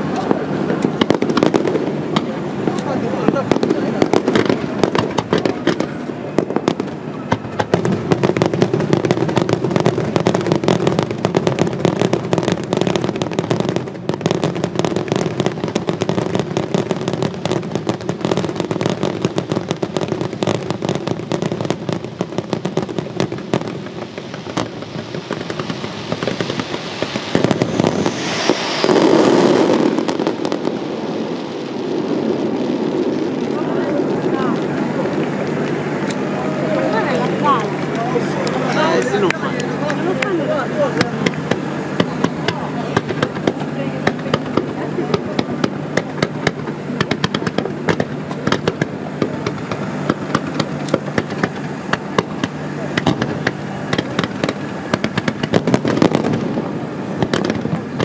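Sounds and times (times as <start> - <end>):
fireworks popping and banging: 0.0 - 58.0.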